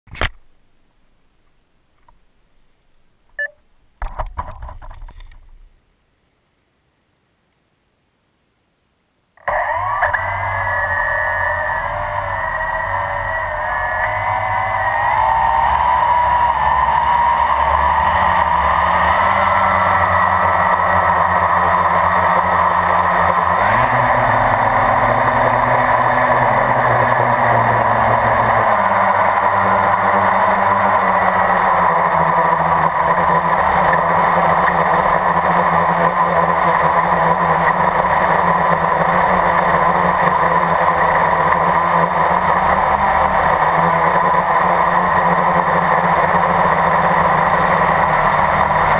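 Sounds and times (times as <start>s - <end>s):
quadcopter motors whining: 9.4s - 48.9s.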